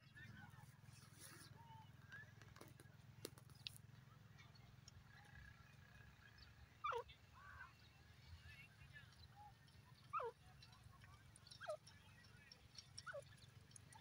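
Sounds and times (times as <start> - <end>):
faint distant bird chirps: 0.0 - 14.0.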